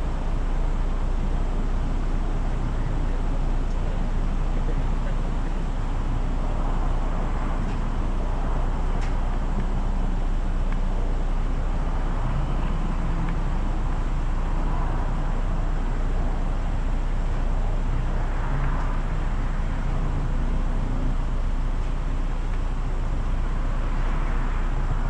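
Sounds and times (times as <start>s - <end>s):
car engine idling: 0.0s - 25.0s
traffic noise: 0.0s - 25.0s.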